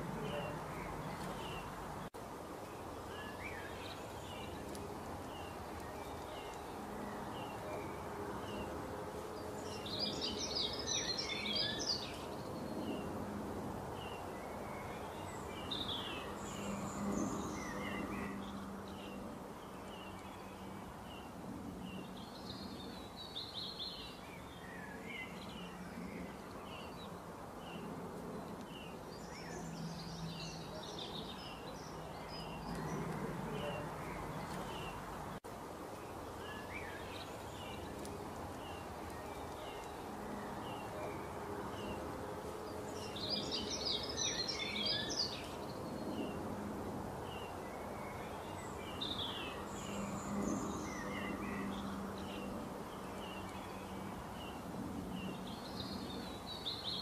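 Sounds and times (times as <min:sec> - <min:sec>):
background hiss: 0:00.0 - 0:57.0
birds chirping: 0:00.0 - 0:57.0.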